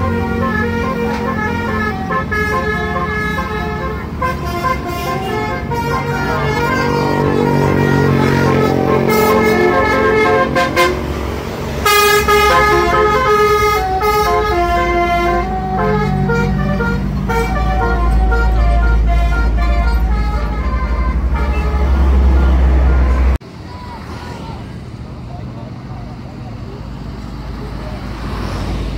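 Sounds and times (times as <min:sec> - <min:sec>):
air horns playing a tune: 0:00.0 - 0:23.4
bus engine running: 0:00.0 - 0:28.9.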